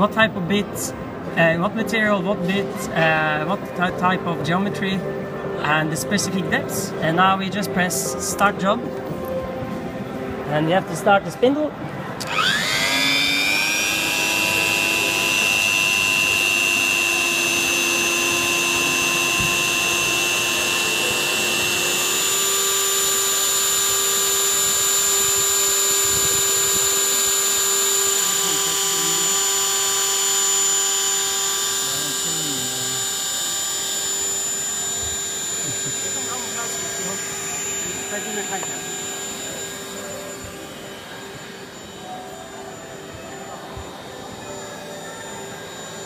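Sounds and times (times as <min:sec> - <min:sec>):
rotary tool high whine: 0:00.0 - 0:46.0.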